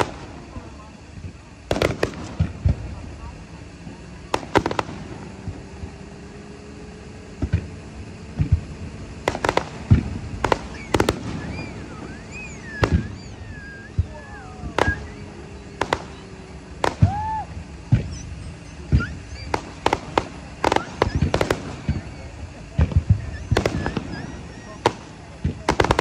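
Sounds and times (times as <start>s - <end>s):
fireworks bursting with bangs: 0.0s - 26.0s.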